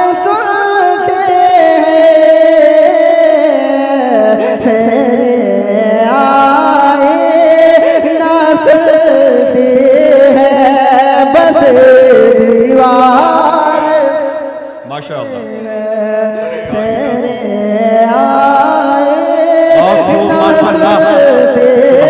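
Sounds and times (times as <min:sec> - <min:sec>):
man singing devotional song: 0:00.0 - 0:22.0.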